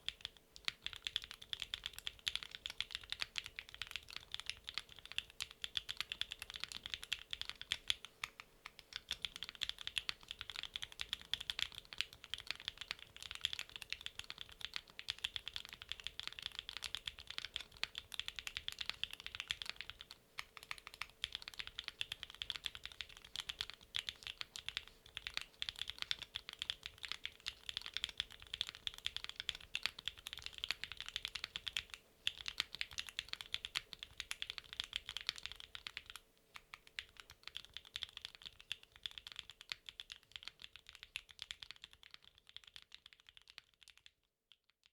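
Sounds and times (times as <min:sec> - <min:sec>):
typing on mechanical keyboard: 0:00.0 - 0:44.1.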